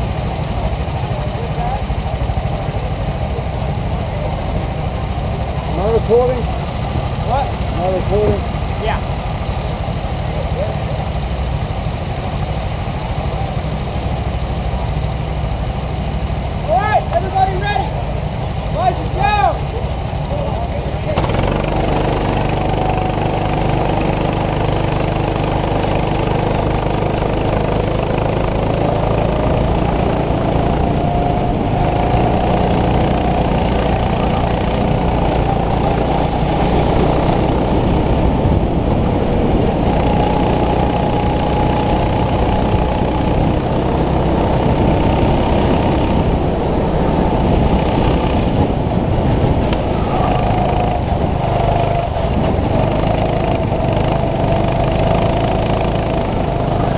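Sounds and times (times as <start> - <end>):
kart engine accelerating: 0.0 - 56.9.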